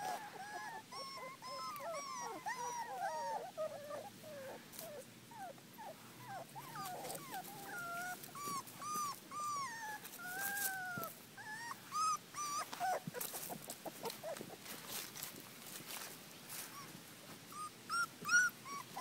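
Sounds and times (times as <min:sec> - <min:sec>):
puppies whimpering and whining: 0:00.0 - 0:14.7, 0:17.5 - 0:19.0.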